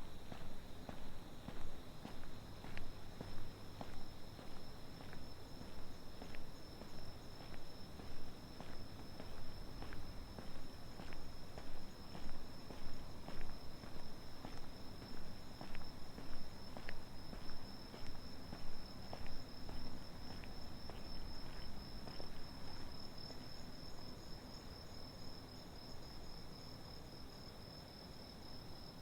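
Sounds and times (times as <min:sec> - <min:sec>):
footsteps on pavement: 0:00.2 - 0:24.6
night insects trilling: 0:00.2 - 0:29.0.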